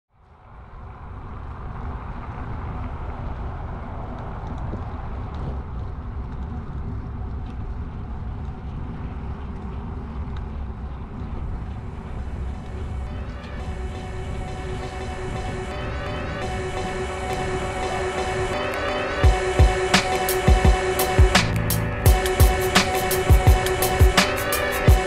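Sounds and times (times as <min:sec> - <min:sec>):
bicycle tyres rolling on asphalt: 0:00.1 - 0:25.0
wind rumble on microphone: 0:00.1 - 0:25.0.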